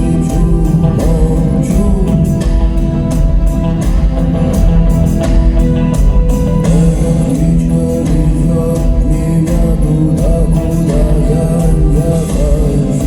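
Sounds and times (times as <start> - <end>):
live rock band playing: 0.0 - 13.0
person singing: 0.0 - 13.0.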